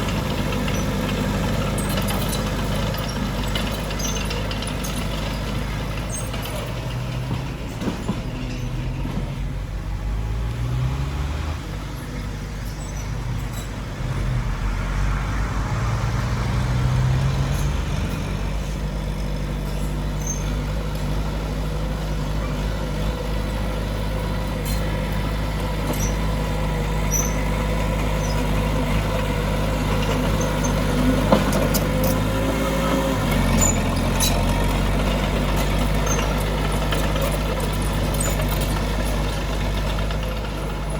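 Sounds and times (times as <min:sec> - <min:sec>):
diesel earthmoving machine engine: 0:00.0 - 0:40.9.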